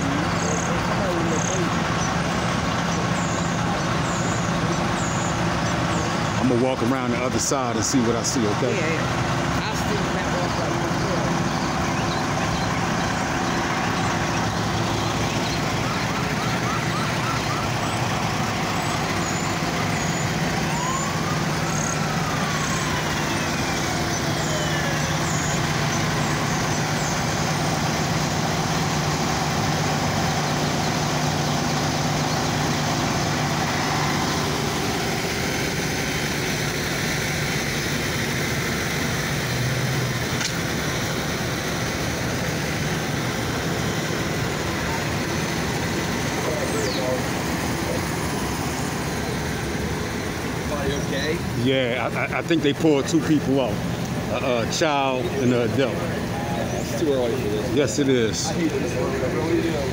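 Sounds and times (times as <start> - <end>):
diesel engines idling: 0.0 - 59.9
road traffic noise: 0.0 - 59.9.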